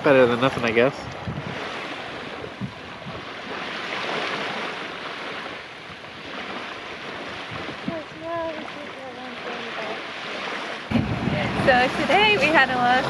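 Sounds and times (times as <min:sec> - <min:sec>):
rushing sea and wind: 0:00.0 - 0:13.0.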